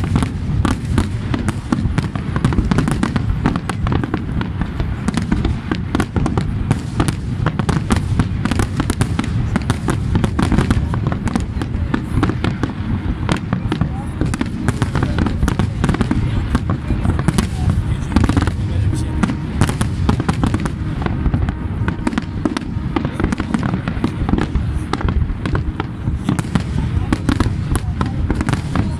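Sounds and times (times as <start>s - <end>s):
fireworks bangs and crackles: 0.0s - 28.9s
steady low rumble: 0.0s - 28.9s.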